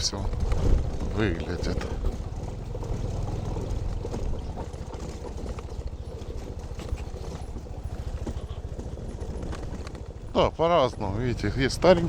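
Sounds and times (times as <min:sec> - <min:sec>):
engine and road rumble: 0:00.0 - 0:12.0
knocks and rattles from bumps: 0:00.0 - 0:12.0.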